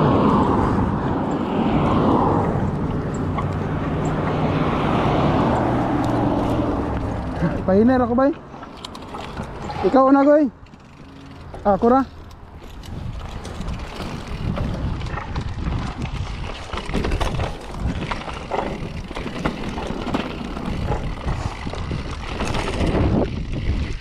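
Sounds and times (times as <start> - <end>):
wind buffeting microphone: 0.0 - 7.7, 12.4 - 24.0
bike rattling over bumps: 0.0 - 24.0
bike tyres rolling on dirt: 0.0 - 24.0.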